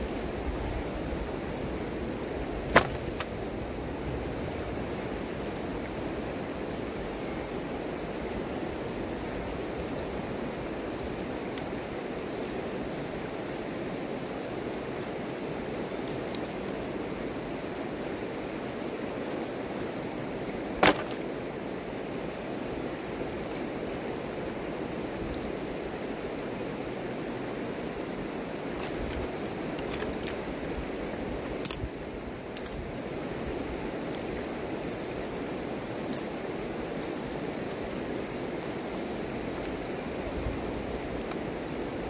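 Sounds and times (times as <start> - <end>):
river rushing over stones: 0.0 - 42.0.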